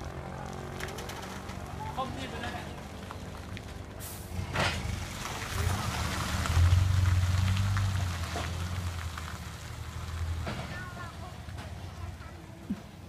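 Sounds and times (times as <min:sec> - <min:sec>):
dump truck diesel engine: 0:00.0 - 0:13.0.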